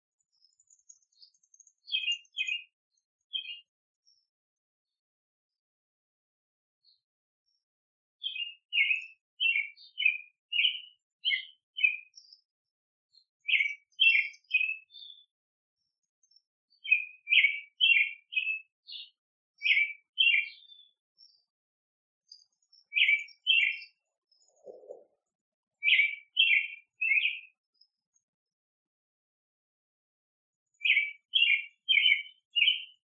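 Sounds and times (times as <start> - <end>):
small songbird chirping: 0.0 - 5.7, 6.8 - 21.6, 22.2 - 28.6, 30.5 - 33.0.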